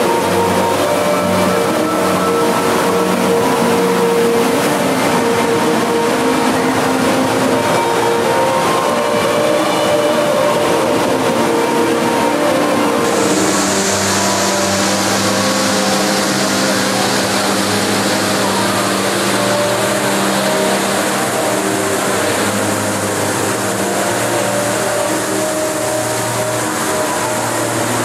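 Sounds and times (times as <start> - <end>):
waterfall rushing into pool: 0.0 - 28.0.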